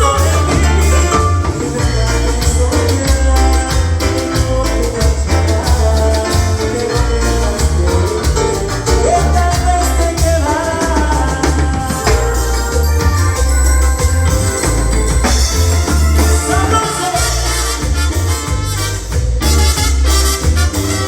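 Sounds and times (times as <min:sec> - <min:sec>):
person singing: 0:00.0 - 0:18.3
latin dance band music: 0:00.0 - 0:21.0.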